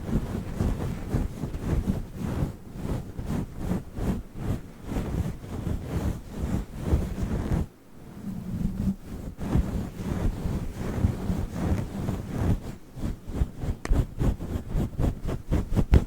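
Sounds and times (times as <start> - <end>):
fur microphone cover rubbing: 0.0 - 16.0.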